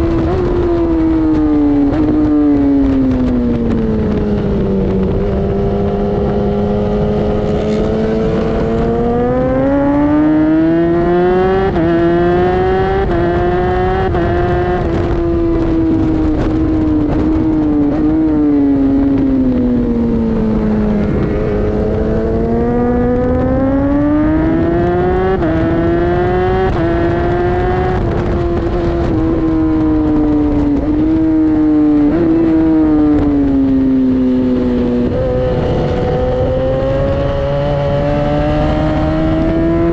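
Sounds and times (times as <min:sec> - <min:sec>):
motorcycle engine revving: 0:00.0 - 0:39.9
wind rushing: 0:00.0 - 0:39.9.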